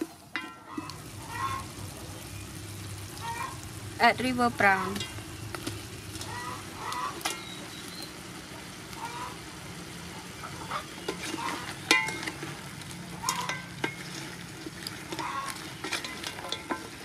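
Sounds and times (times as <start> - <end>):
curry bubbling and sizzling in pot: 0.0 - 17.0.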